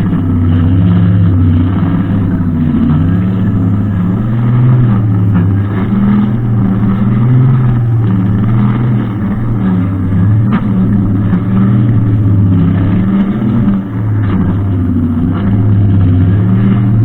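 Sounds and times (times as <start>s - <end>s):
brushcutter engine running: 0.0s - 17.0s.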